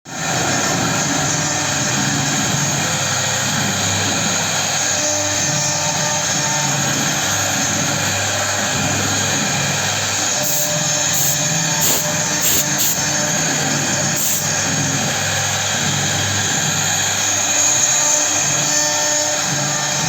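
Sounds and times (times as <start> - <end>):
cutting machine droning: 0.1 - 20.0.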